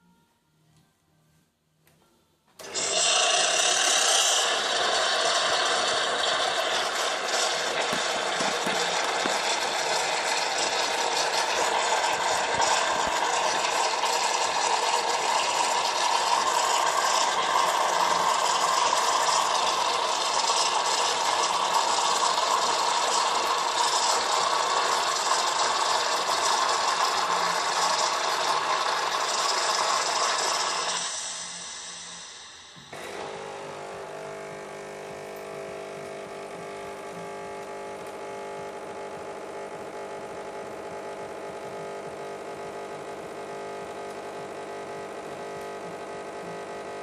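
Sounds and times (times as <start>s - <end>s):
espresso machine pump buzzing: 2.6s - 47.0s.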